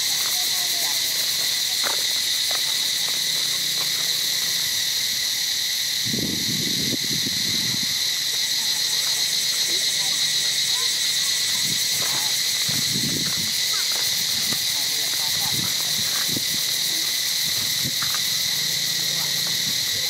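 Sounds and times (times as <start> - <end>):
insect chorus droning: 0.0 - 20.0.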